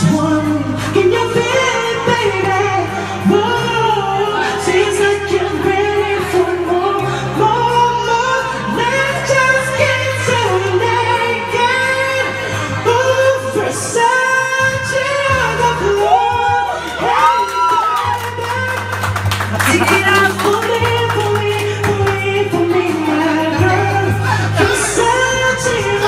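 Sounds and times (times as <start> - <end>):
man singing into a microphone: 0.0 - 26.0
pop backing track: 0.0 - 26.0.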